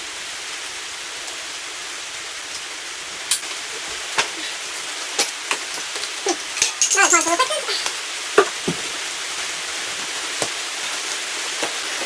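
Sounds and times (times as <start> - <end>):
rain hissing on roof: 0.0 - 12.0.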